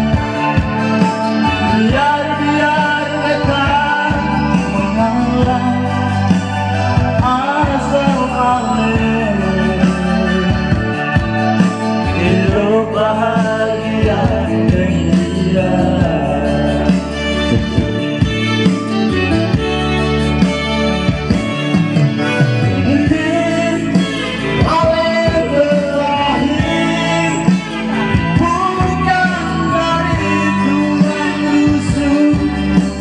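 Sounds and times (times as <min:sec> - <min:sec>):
man singing into a microphone: 0:00.0 - 0:18.5, 0:22.1 - 0:33.0
loud musical accompaniment: 0:00.0 - 0:33.0.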